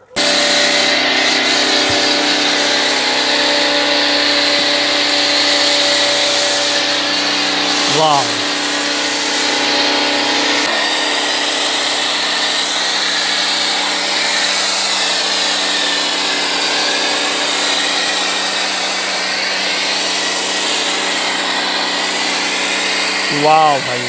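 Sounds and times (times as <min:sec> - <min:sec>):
pressure washer humming: 0:00.0 - 0:24.0
foam cannon hissing: 0:00.2 - 0:24.0.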